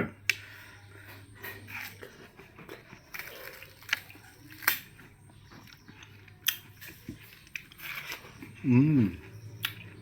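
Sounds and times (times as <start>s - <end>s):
person chewing watermelon: 0.0s - 10.0s.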